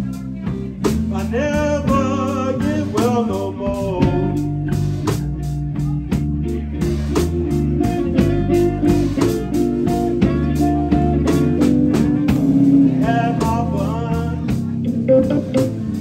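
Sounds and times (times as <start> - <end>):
bass guitar: 0.0 - 16.0
drum kit beat: 0.0 - 16.0
electric guitars: 0.0 - 16.0.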